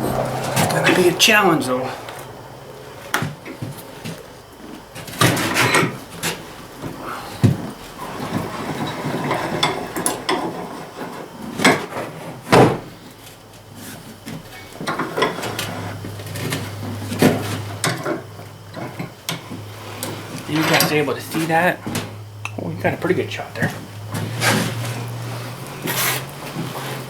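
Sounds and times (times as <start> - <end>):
tire scraping and creaking: 0.0 - 27.0.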